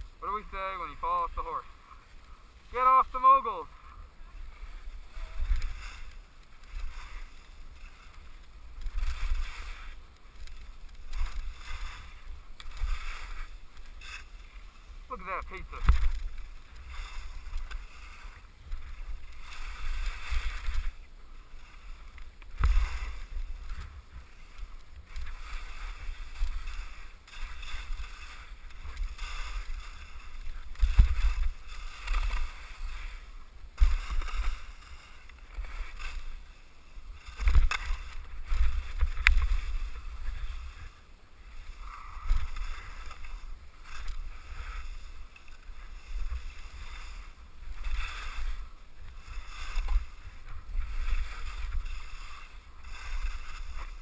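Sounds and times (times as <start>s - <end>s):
skis scraping over snow: 0.0s - 54.0s.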